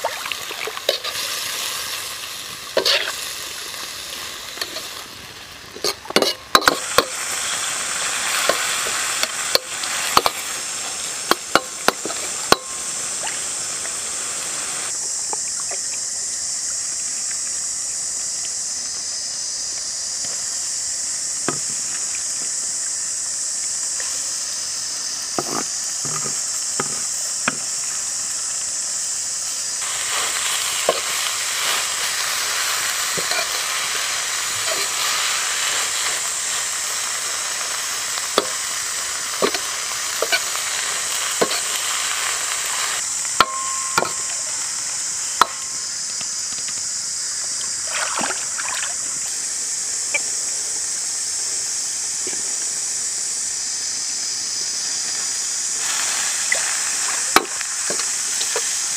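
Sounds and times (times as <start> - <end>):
food sizzling in a wok: 0.0 - 58.9.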